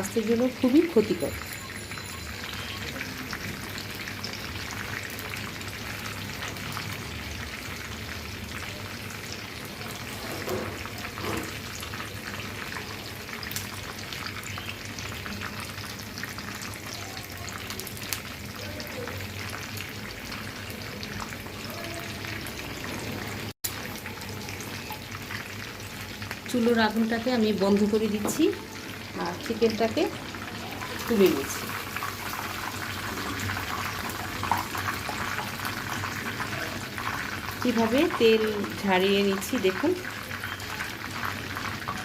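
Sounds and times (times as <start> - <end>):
chicken deep-frying in oil: 0.0 - 42.0.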